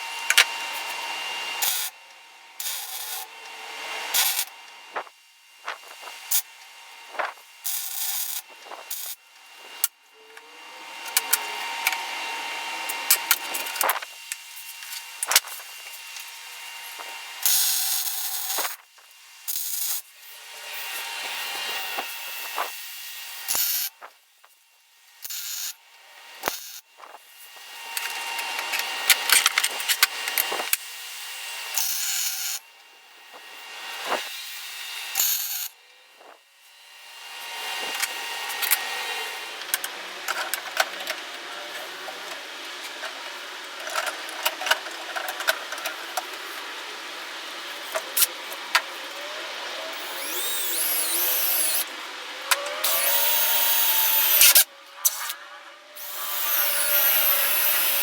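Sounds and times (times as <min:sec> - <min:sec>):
motor whine: 0:00.0 - 0:24.1, 0:25.5 - 0:58.0
power tools grinding wood: 0:00.0 - 0:24.2, 0:25.2 - 0:58.0.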